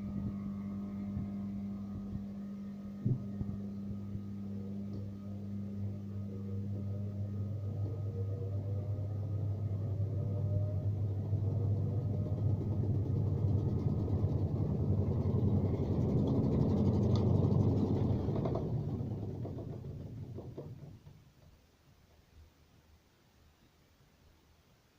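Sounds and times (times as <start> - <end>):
washing machine spinning: 0.0 - 21.6.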